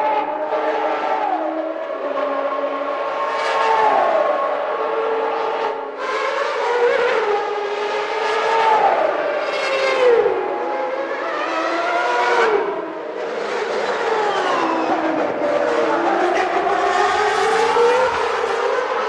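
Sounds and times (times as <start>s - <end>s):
racing engines at high revs: 0.0s - 19.0s.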